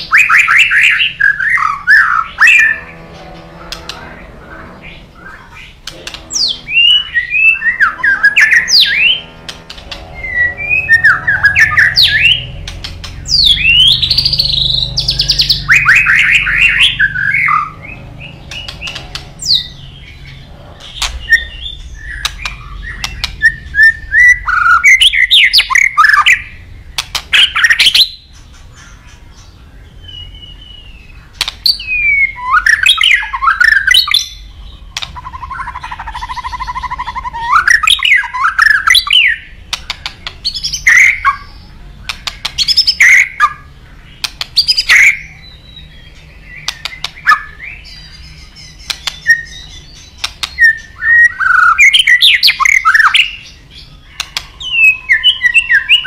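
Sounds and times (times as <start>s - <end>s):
bird singing whistles and trills: 0.0s - 2.9s, 5.2s - 28.9s, 29.8s - 56.0s.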